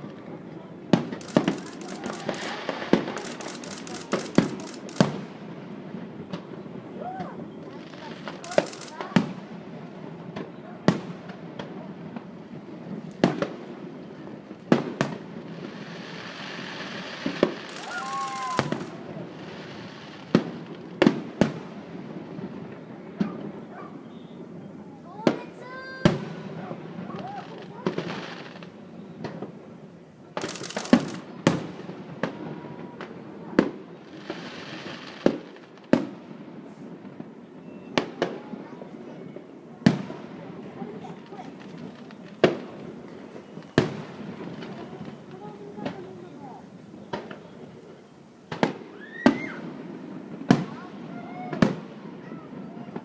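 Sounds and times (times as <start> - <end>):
fireworks bangs: 0.0 - 53.0
fireworks crackling: 0.0 - 53.0
steady background hiss: 0.0 - 53.0.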